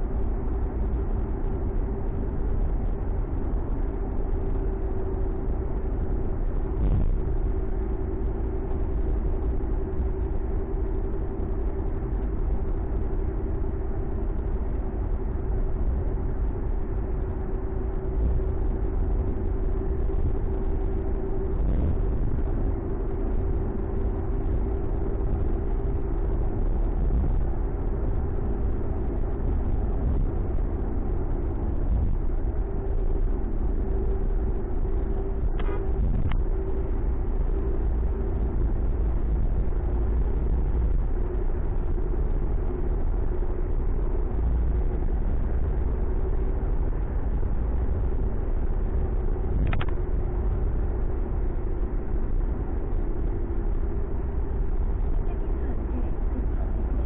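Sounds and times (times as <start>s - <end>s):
car engine and road rumble: 0.0s - 57.0s
constant hum: 0.0s - 57.0s.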